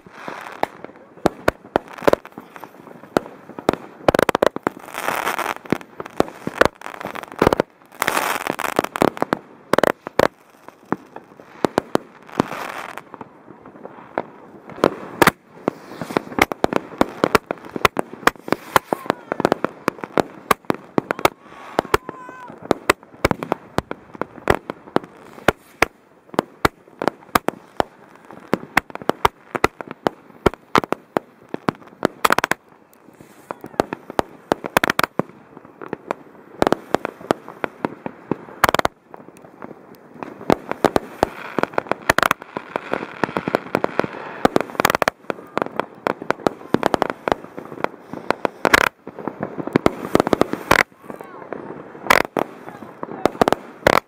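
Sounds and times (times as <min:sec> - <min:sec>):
loud firework bangs: 0:00.0 - 0:32.6, 0:39.6 - 0:54.0
firework crackling: 0:00.0 - 0:54.0.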